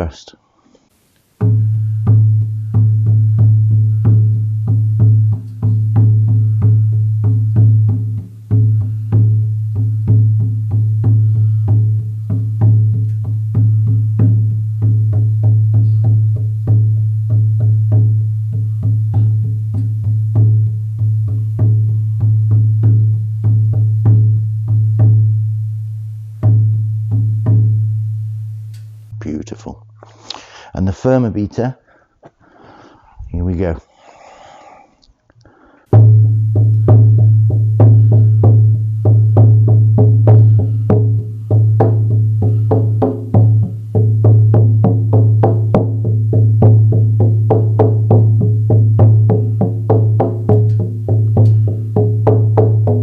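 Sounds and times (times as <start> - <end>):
frame drum beating: 1.4 - 29.2, 35.9 - 53.0.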